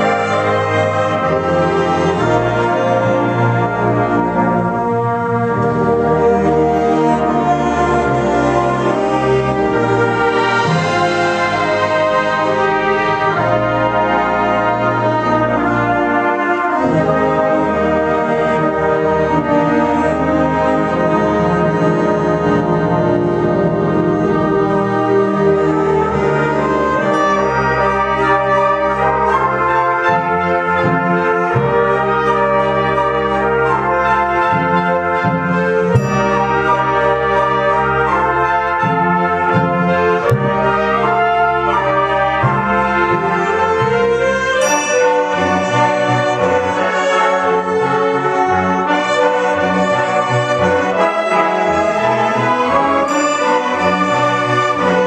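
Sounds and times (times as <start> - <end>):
wind band playing chords: 0.0 - 55.0.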